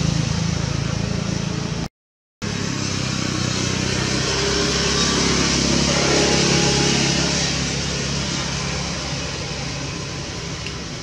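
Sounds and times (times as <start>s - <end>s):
engine-like hum: 0.0s - 11.0s.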